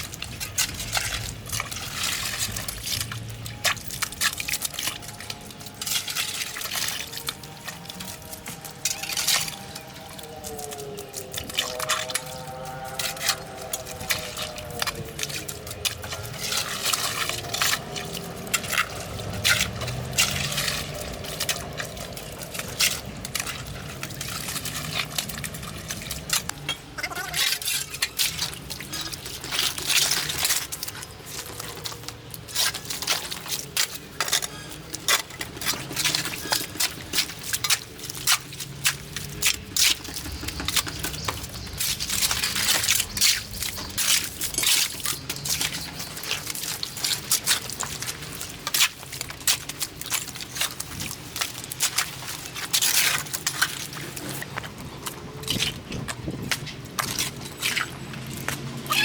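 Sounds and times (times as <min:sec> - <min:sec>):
water splashing and dripping: 0:00.0 - 0:59.0.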